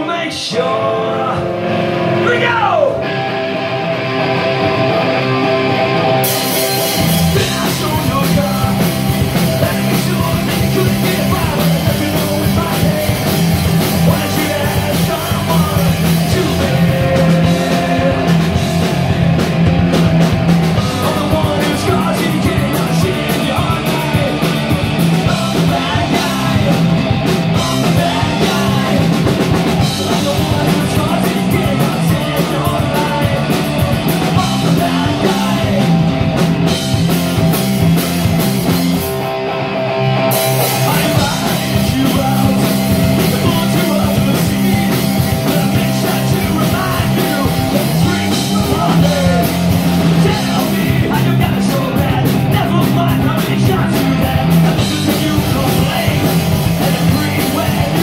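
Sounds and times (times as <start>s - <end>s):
person singing: 0.0s - 3.2s, 7.0s - 19.1s, 20.7s - 36.2s, 40.5s - 58.0s
bass guitar: 0.0s - 58.0s
distorted electric guitar: 0.0s - 58.0s
drum kit: 1.7s - 58.0s.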